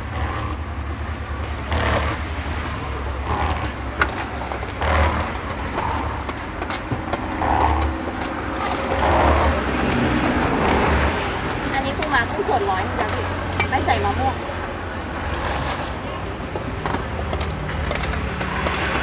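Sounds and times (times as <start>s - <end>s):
road traffic rumble: 0.0s - 19.0s
vehicles passing by: 0.0s - 19.0s.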